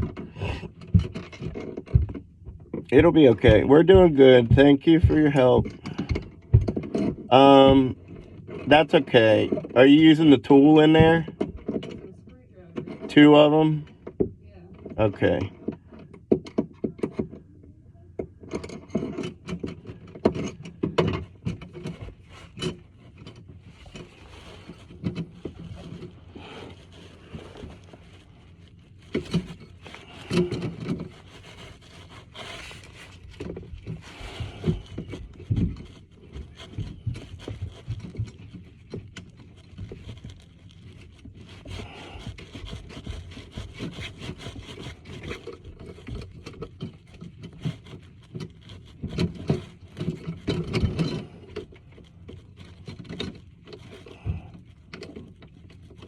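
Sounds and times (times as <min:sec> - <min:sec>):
scraping and rubbing: 0:00.0 - 0:56.0.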